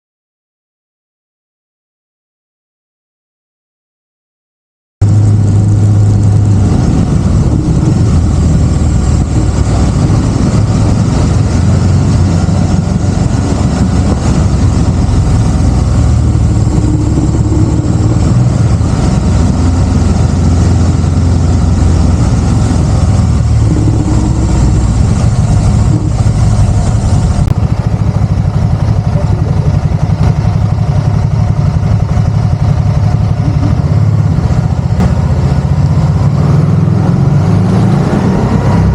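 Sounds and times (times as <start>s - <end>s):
motorcycle engine running: 5.0s - 38.9s.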